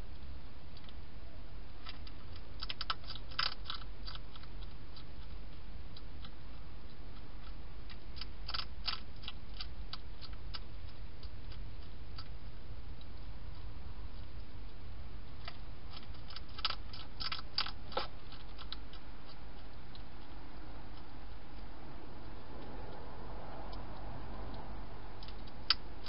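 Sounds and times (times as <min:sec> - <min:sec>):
low background hiss: 0:00.0 - 0:26.0
hedgehog crunching dry food: 0:01.7 - 0:21.7, 0:24.5 - 0:26.0.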